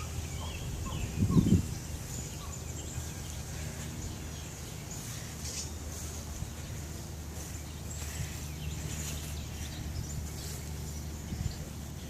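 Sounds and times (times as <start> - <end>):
bird chirps: 0.0 - 12.0
steady low rumble: 0.0 - 12.0.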